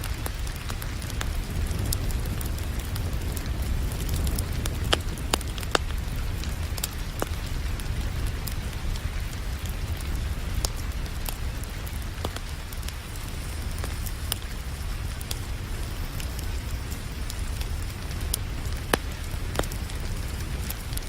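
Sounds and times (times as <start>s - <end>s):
low continuous rumble: 0.0s - 21.0s
steady rain: 0.0s - 21.0s
wood fire crackling: 0.0s - 21.0s.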